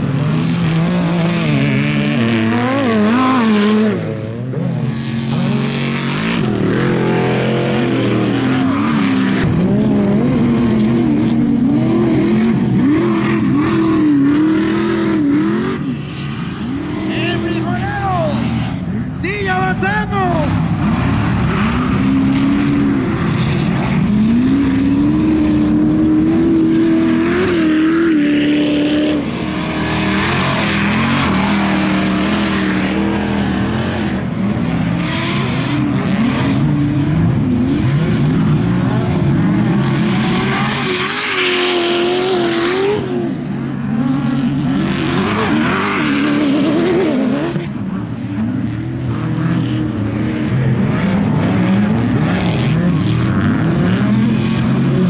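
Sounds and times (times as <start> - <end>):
race truck engine revving: 0.0 - 55.0.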